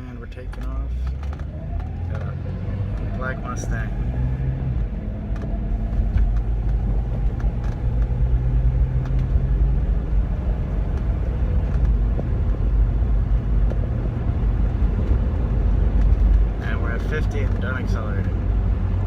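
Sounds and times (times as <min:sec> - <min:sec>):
low road rumble: 0:00.0 - 0:19.0
car engine accelerating: 0:00.4 - 0:19.0.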